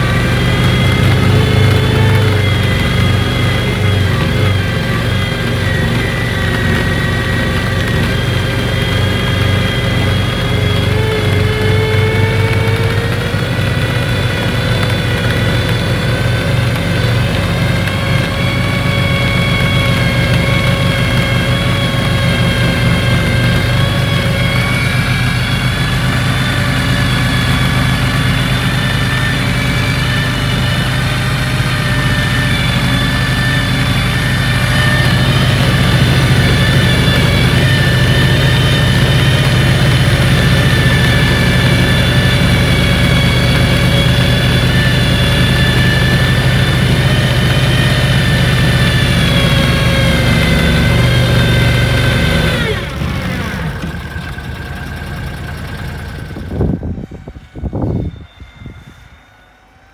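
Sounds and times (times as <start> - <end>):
high whine: 0.0 - 59.9
tracked vehicle engine running: 0.0 - 59.9.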